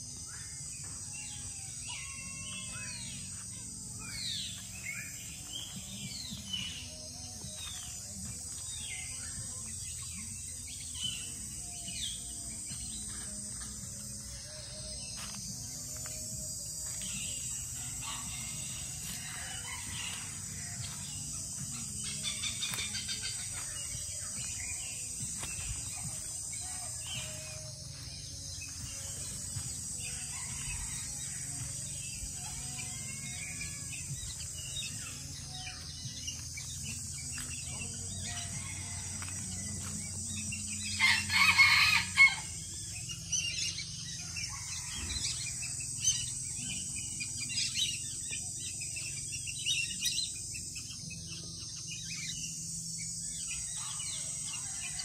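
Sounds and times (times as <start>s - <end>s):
birds chirping and calling: 0.0s - 55.0s
high insect drone: 0.0s - 55.0s.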